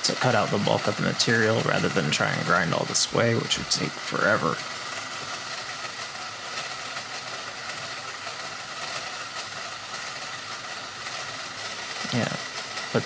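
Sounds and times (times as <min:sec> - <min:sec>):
bandsaw cutting steel: 0:00.0 - 0:13.0.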